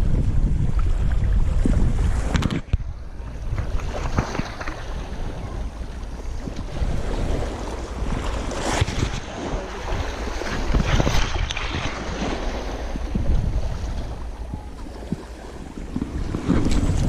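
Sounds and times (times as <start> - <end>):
waves washing: 0.0 - 17.0
wind buffeting the microphone: 0.0 - 17.0.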